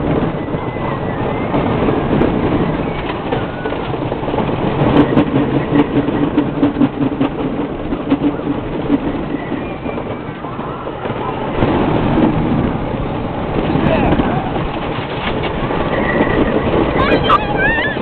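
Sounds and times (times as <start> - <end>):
roller coaster rattling on track: 0.0 - 18.0.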